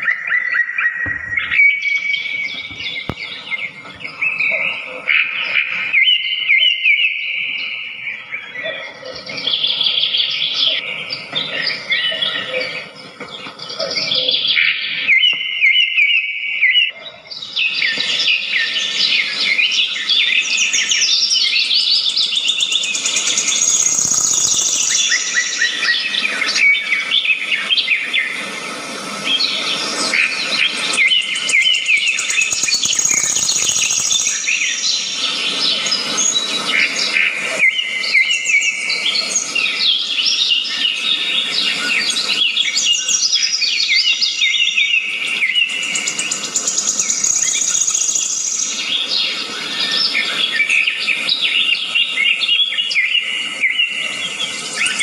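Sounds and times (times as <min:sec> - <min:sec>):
birds chirping: 0:00.0 - 0:15.0, 0:17.0 - 0:55.0.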